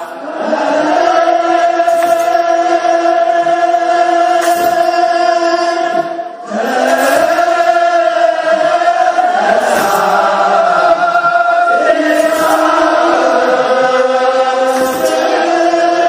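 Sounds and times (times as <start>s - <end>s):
choir chanting held notes: 0.0s - 16.0s.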